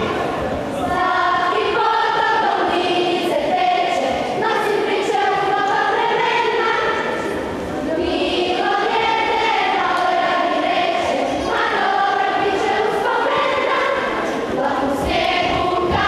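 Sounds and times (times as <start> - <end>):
girls choir singing in harmony: 0.0 - 16.0.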